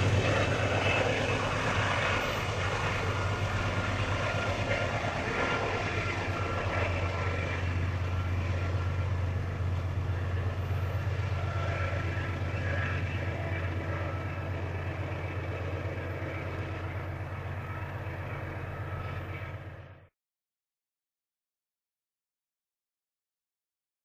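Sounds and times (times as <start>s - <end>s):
diesel locomotive engine droning: 0.0s - 20.1s.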